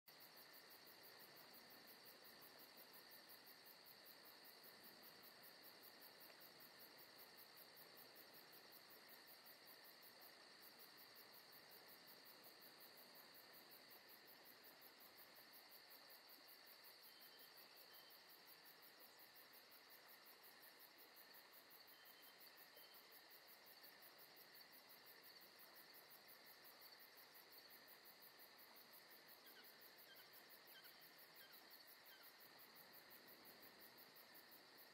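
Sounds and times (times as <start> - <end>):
insects chirping: 0.1 - 34.9.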